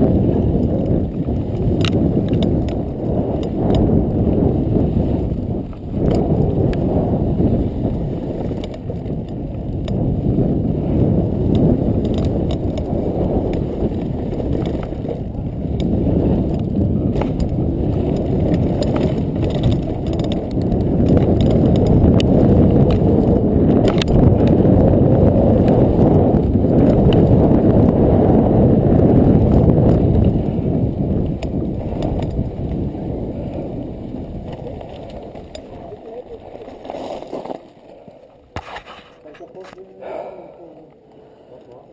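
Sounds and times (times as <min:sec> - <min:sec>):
wind rushing over microphone: 0:00.0 - 0:37.6
tyres rolling on loose gravel: 0:00.0 - 0:38.5
bike frame rattling: 0:00.0 - 0:39.6.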